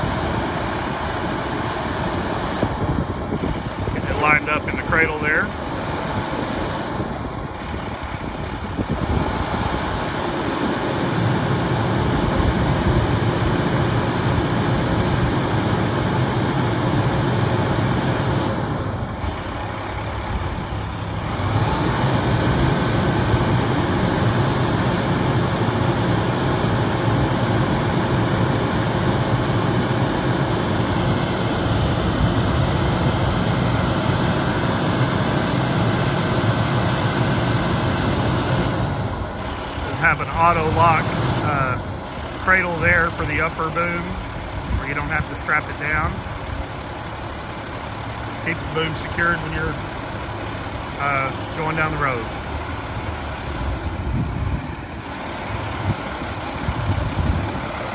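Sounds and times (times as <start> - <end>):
diesel truck engine idling: 0.0 - 57.9.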